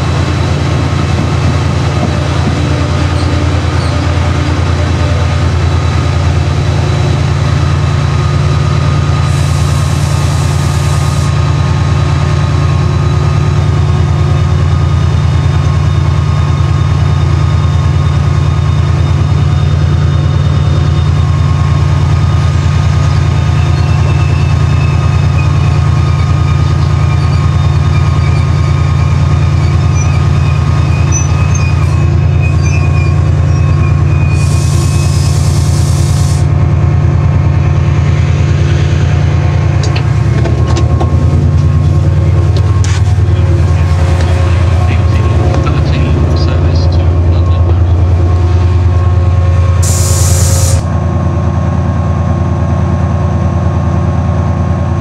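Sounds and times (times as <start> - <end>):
diesel locomotive engine humming: 0.0 - 55.0
train running noise: 0.0 - 55.0.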